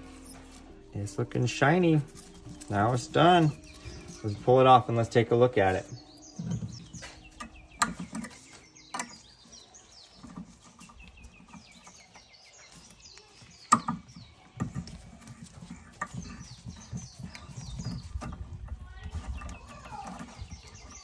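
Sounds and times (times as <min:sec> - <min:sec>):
metal clicks and knocks: 0:02.0 - 0:21.0.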